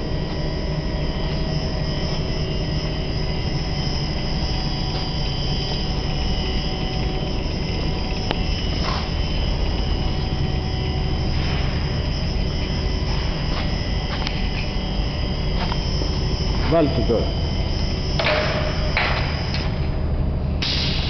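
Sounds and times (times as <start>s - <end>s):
machine motors humming and whining: 0.0s - 21.0s.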